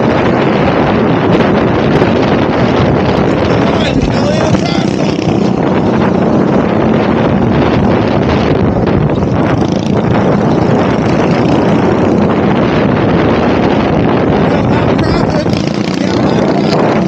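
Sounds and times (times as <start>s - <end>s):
minibike engine racing: 0.0s - 17.0s
wind buffeting microphone: 0.0s - 17.0s.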